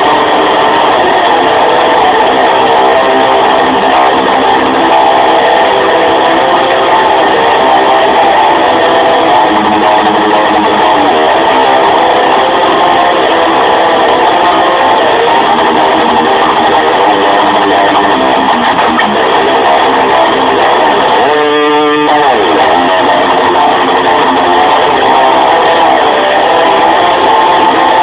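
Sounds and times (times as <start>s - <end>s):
electric guitar sustained notes: 0.0s - 28.0s
guitar whammy-bar dive bomb: 0.0s - 28.0s.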